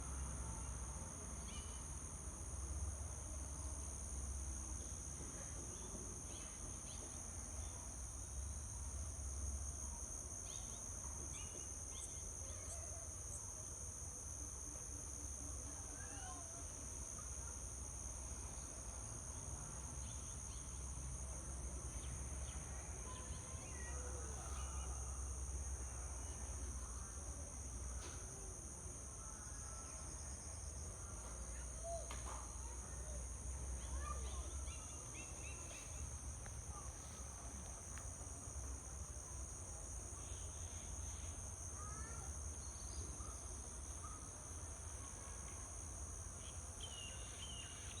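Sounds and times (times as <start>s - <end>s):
high-pitched insect chorus: 0.1s - 48.0s.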